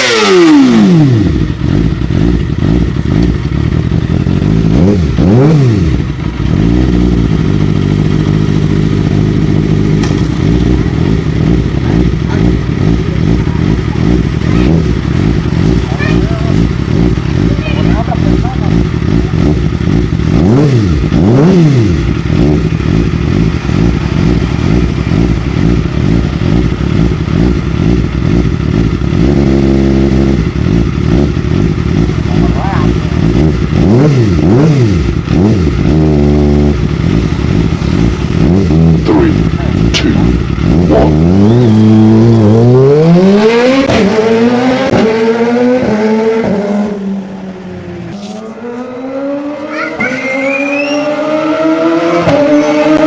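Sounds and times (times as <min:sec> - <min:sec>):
motorcycle engine revving: 0:00.0 - 0:53.0
exhaust popping and crackling: 0:01.1 - 0:45.1.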